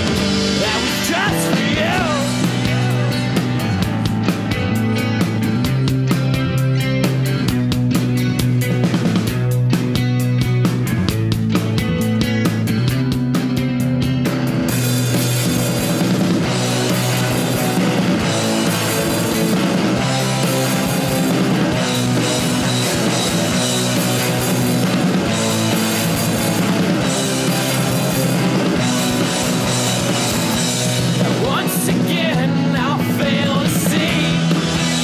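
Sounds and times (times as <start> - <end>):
rock music: 0.0 - 35.0.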